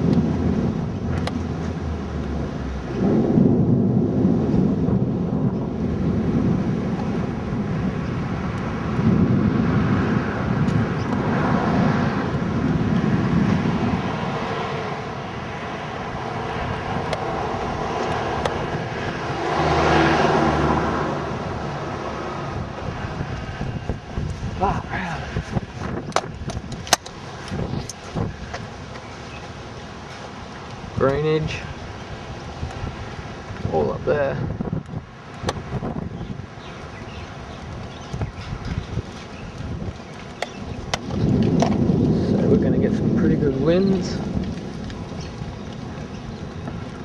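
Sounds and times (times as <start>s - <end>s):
gusty storm wind on microphone: 0.0s - 47.0s.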